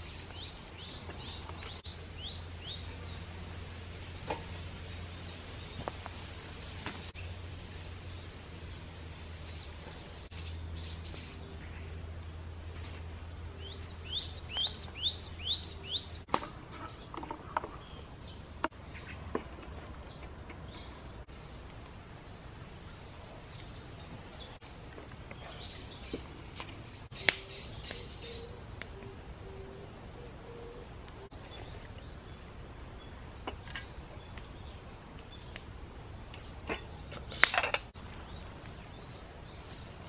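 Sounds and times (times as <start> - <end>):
birds chirping and singing: 0.0 - 40.0.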